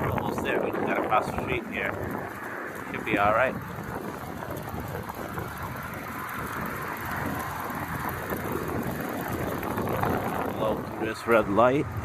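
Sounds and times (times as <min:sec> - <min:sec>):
road traffic: 0:00.0 - 0:12.0
wind on microphone: 0:00.0 - 0:12.0.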